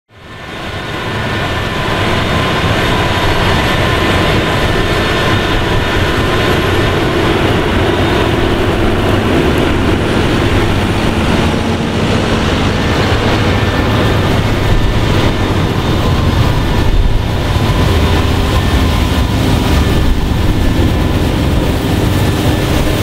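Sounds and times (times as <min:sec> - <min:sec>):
combine harvester and tractor running: 0:00.1 - 0:23.0.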